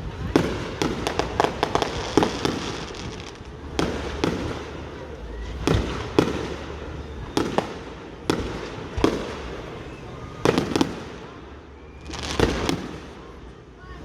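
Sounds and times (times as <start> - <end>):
fireworks bursting with echo: 0.0 - 14.0.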